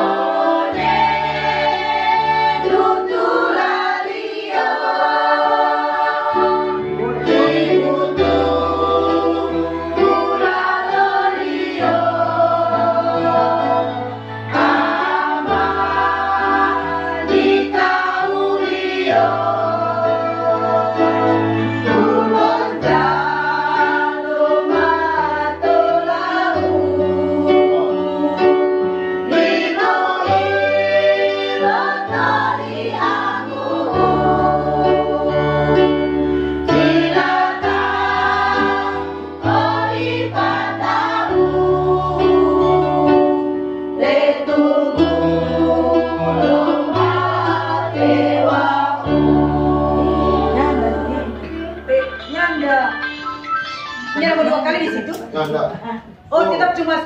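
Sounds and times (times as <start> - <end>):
women's choir singing: 0.0 - 52.9
electronic keyboard: 0.0 - 56.6.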